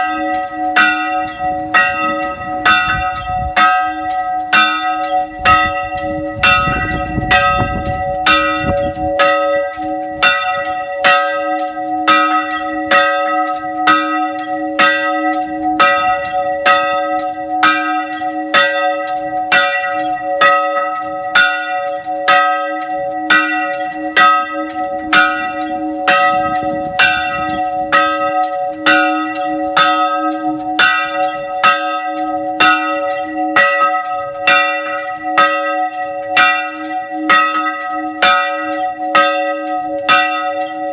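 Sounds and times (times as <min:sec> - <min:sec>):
church bell ringing rapidly: 0:00.0 - 0:40.9.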